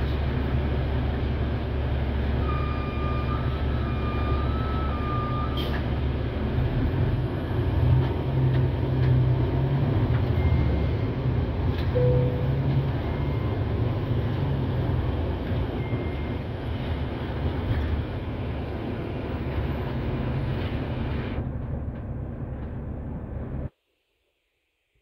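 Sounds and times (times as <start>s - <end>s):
bus engine drone and road rumble: 0.0s - 23.7s.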